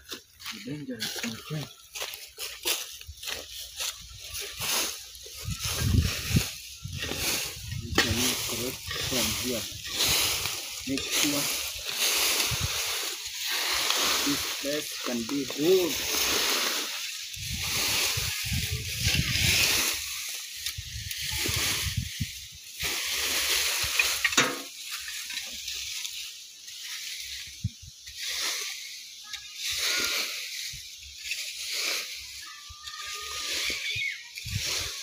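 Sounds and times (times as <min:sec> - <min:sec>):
dry leaves raked: 0:00.0 - 0:35.0.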